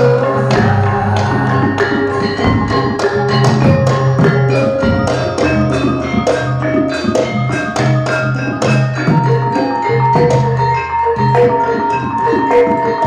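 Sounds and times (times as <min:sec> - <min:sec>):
drum: 0:00.0 - 0:13.0.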